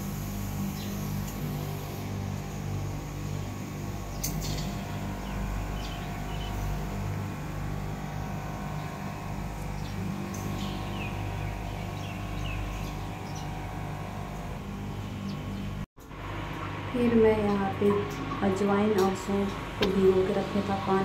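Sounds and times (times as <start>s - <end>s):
steady low city hum: 0.0s - 21.0s.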